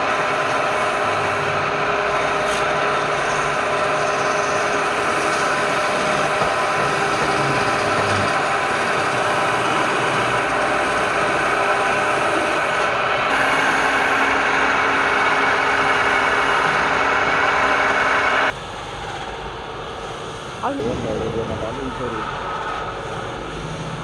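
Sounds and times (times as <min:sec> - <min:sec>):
wood lathe motor whine: 0:00.0 - 0:19.5.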